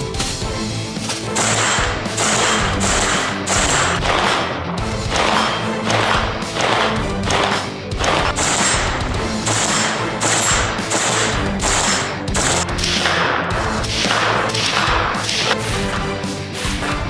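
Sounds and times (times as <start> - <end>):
background music: 0.0 - 17.0
rifle shots: 1.1 - 15.7.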